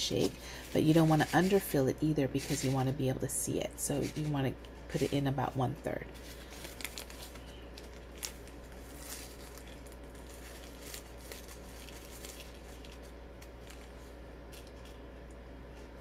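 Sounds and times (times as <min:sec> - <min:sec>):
plastic bag rustling: 0:00.0 - 0:03.2, 0:03.8 - 0:16.0.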